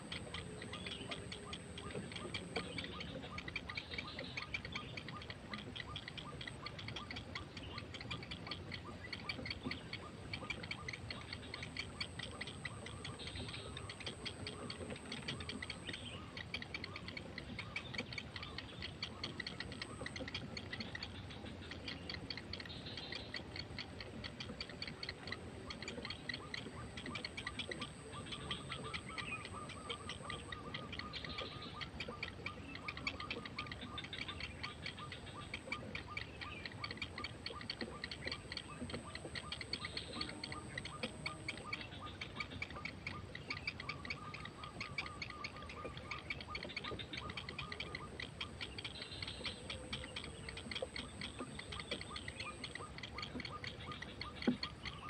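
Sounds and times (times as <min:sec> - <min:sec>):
heron nestlings ticking chatter: 0:00.0 - 0:55.0.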